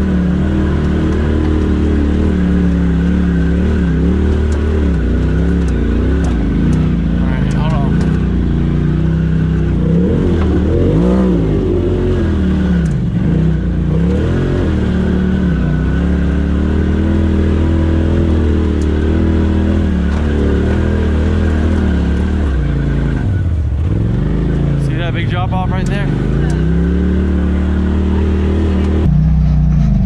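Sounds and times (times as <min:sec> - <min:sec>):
engine revving up and down: 0:00.0 - 0:30.0.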